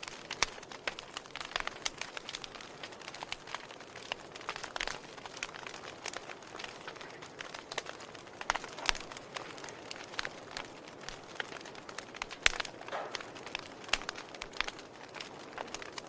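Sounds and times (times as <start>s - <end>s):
wood fire crackling and hissing: 0.0s - 16.0s.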